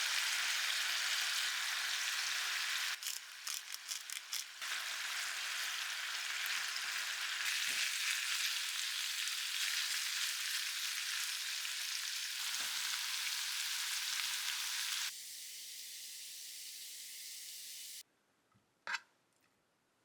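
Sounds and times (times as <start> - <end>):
meat sizzling in a pan: 0.0 - 18.0.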